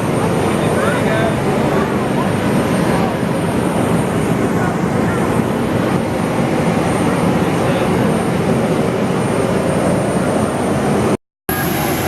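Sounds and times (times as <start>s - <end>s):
aircraft engine drone: 0.0s - 12.0s
thin high whine: 0.0s - 12.0s.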